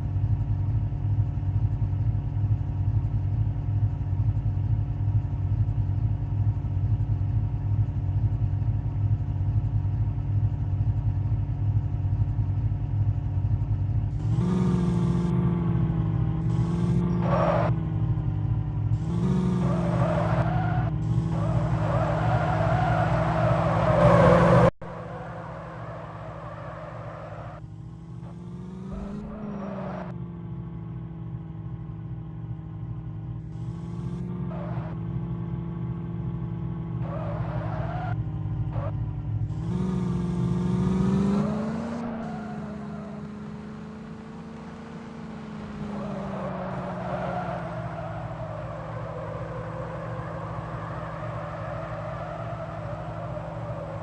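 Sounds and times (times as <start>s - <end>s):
tractor engine running and revving: 0.0s - 54.0s.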